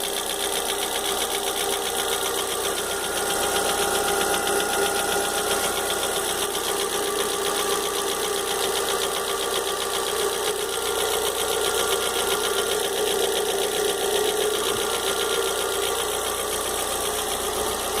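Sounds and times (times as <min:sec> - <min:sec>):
car engine running: 0:00.0 - 0:18.0
rapid engine ticking: 0:00.0 - 0:18.0.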